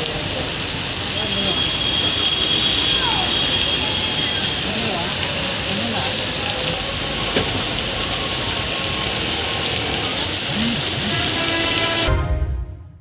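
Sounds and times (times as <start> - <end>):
heavy rain falling: 0.0 - 12.1.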